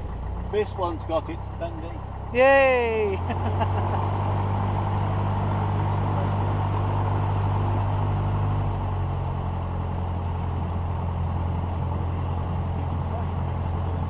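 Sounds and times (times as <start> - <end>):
propeller aircraft engine running: 0.0 - 14.0.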